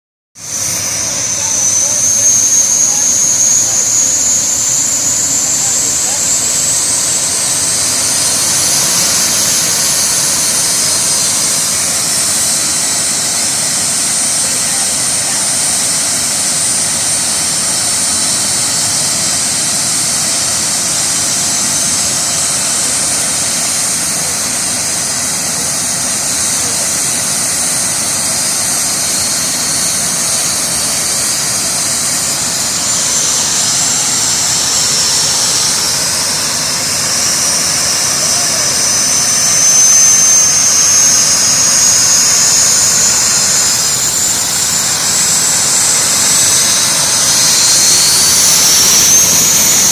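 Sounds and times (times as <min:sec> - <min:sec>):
jet engines whining: 0:00.4 - 0:49.9.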